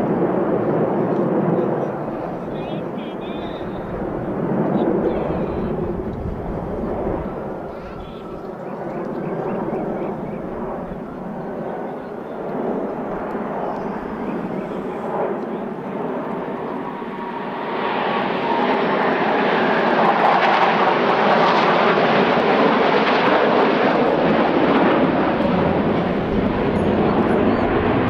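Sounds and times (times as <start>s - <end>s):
fighter jets roaring: 0.0s - 28.0s.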